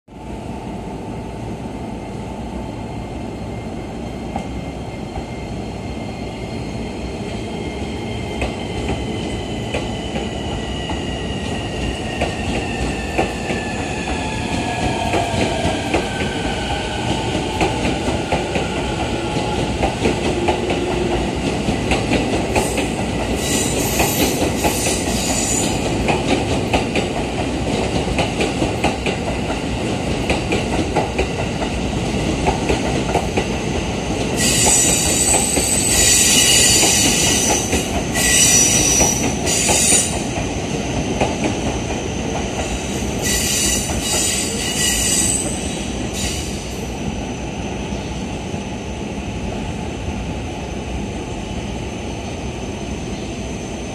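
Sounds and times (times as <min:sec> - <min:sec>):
train rolling noise: 0:00.2 - 0:53.9.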